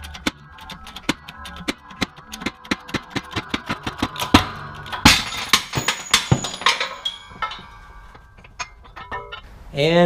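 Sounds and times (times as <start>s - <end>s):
metallic cracks and bangs: 1.0s - 9.5s.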